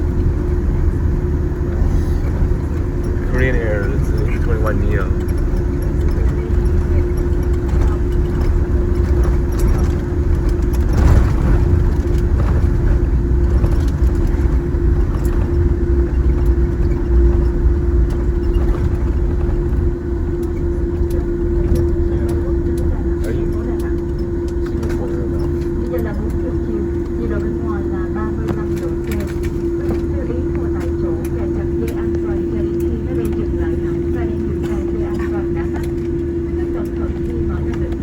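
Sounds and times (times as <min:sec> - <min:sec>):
aircraft engines rumbling: 0:00.0 - 0:38.0
constant humming tone: 0:00.0 - 0:38.0.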